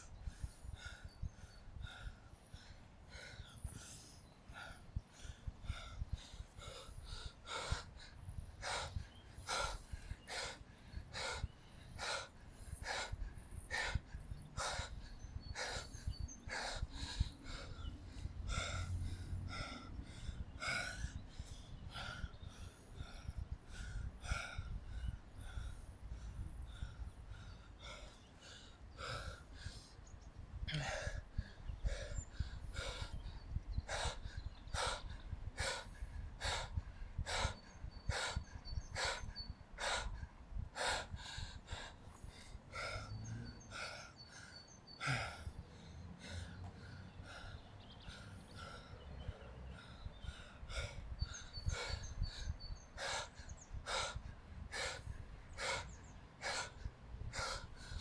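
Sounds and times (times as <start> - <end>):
man panting hard: 0.0 - 58.0.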